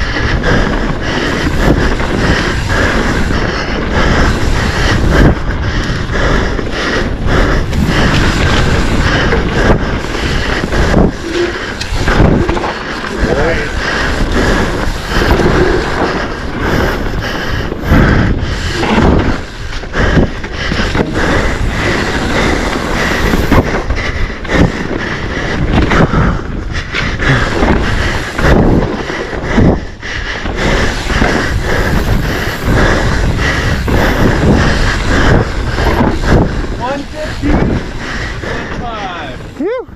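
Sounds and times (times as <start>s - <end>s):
bike rattling over bumps: 0.0s - 39.7s
bike tyres rumbling on dirt trail: 0.0s - 39.9s
wind buffeting microphone: 0.0s - 39.9s.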